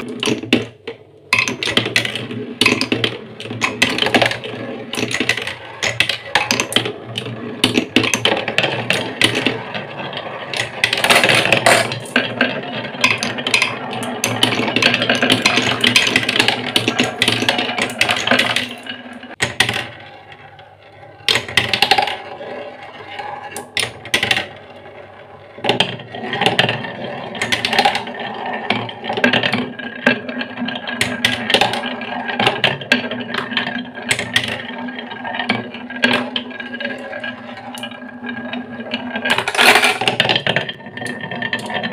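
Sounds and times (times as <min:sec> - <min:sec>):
marbles clattering on wooden tracks: 0:00.0 - 0:41.9.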